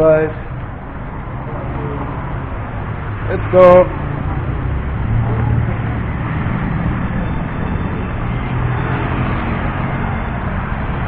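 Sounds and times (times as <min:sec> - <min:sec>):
road traffic engine hum: 0:00.0 - 0:11.0.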